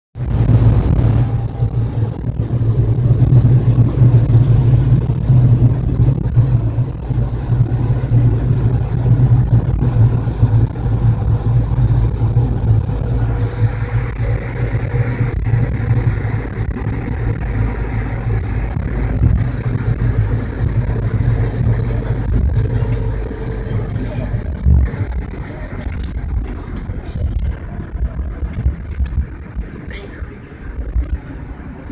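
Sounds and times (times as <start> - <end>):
bus engine and road drone: 0.1 - 31.9.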